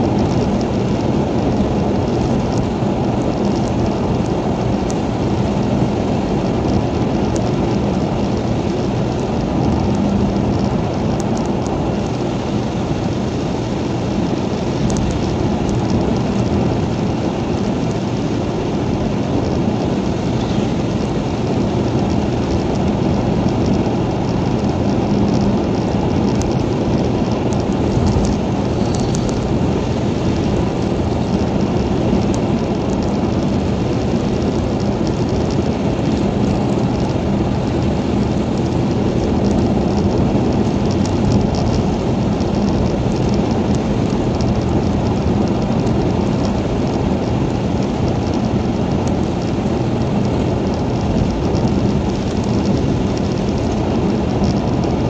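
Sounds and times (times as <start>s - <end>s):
rain ticking on windscreen: 0.0s - 55.0s
road and tyre noise in rain: 0.0s - 55.0s.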